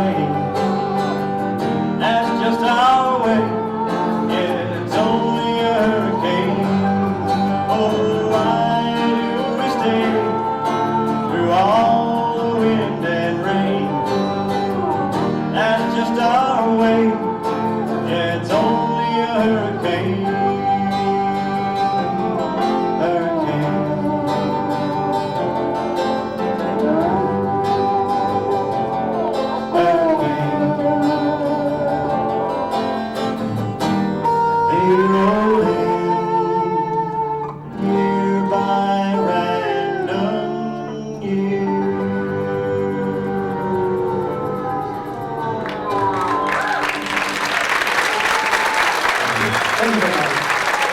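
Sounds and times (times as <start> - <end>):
sliding lead melody: 0.0 - 48.4
strummed guitar: 0.0 - 50.9.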